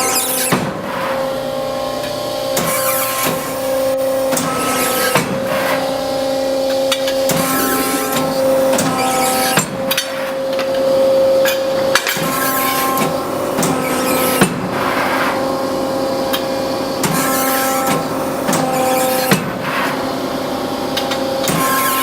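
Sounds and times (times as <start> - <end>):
hydraulic pump hum and whine: 0.0 - 22.0.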